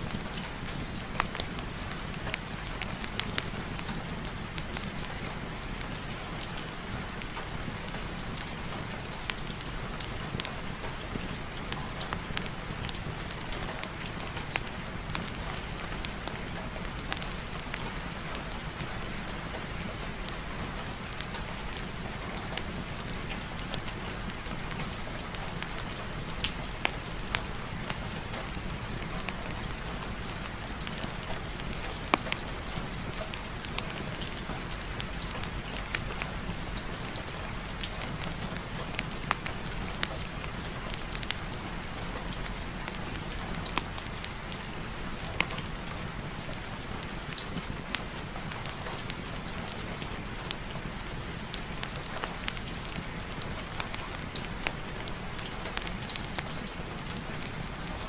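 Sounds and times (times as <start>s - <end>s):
fire ticks and crackles: 0.0s - 58.0s
heavy rain: 0.0s - 58.0s.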